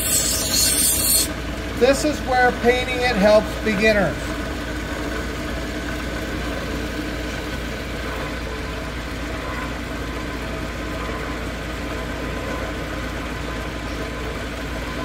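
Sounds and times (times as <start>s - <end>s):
grinding machine motor hum: 0.0s - 15.0s.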